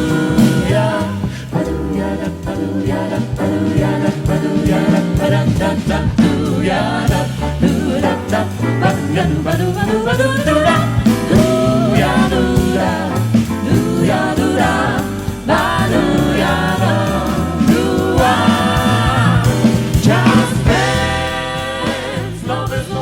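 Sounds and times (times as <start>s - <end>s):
stepping bass line: 0.0s - 23.0s
vocal group singing harmony: 0.0s - 23.0s.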